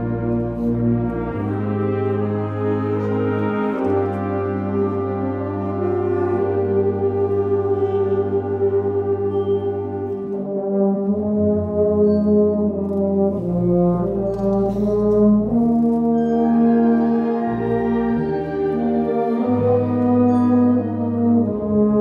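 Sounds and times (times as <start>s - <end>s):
brass band playing slow chords: 0.0s - 22.0s.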